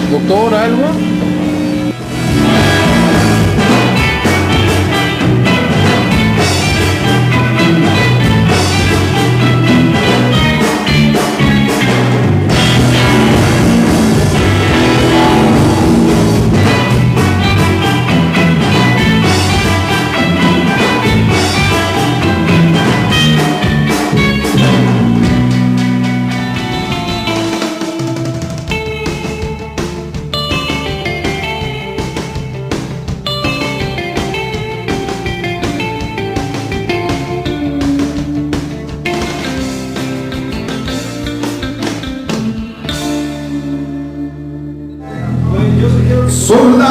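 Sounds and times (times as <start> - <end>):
bass guitar: 0.0 - 46.9
electric guitar: 0.0 - 46.9
drum kit: 1.2 - 43.9.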